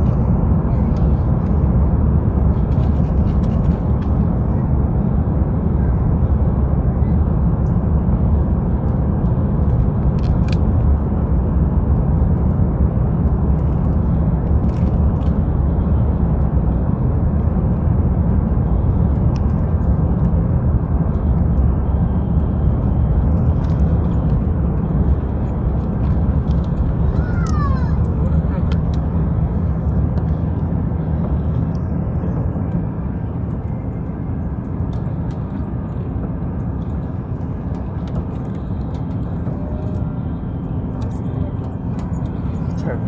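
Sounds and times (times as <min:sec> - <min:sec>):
airplane cabin rumble: 0:00.0 - 0:43.0.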